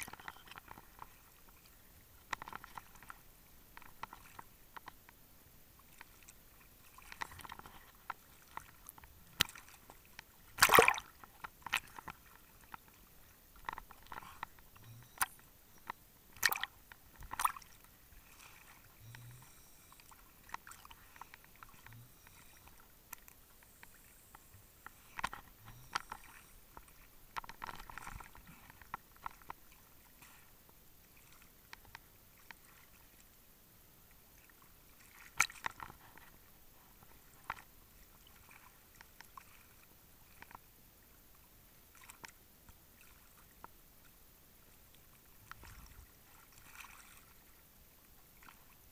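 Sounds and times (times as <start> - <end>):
water sloshing and splashing: 0.0 - 33.4, 34.3 - 40.7, 41.8 - 48.9.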